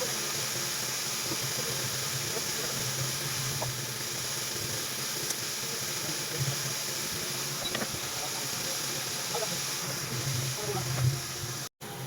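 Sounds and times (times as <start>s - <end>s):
hiss of air blowing: 0.0s - 11.7s.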